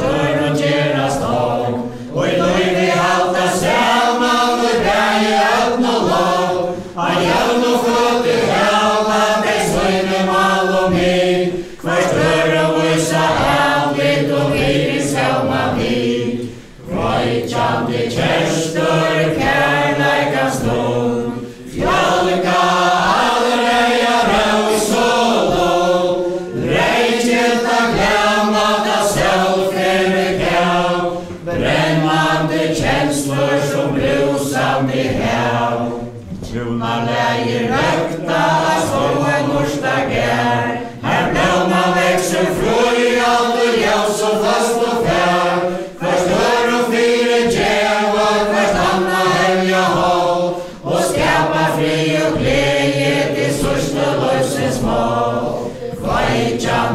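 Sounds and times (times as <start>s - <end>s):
group singing unaccompanied ballad: 0.0s - 56.9s.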